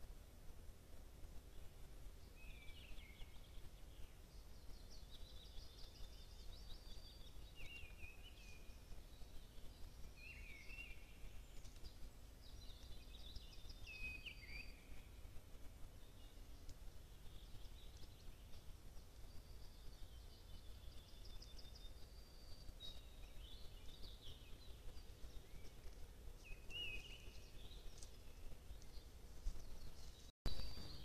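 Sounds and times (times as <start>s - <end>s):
low background rumble: 0.0s - 31.0s
songbird chirping and trilling: 1.4s - 31.0s.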